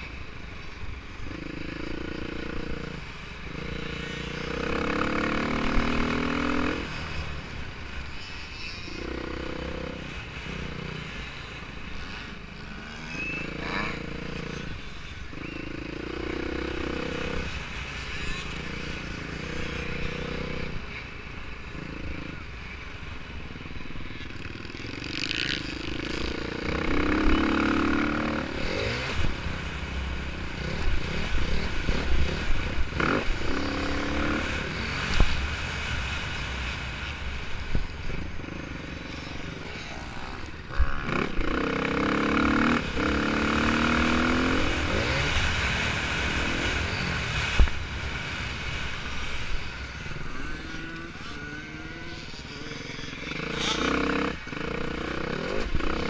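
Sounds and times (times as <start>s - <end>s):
atv engine revving: 1.1s - 21.0s, 21.7s - 22.6s, 23.4s - 56.0s.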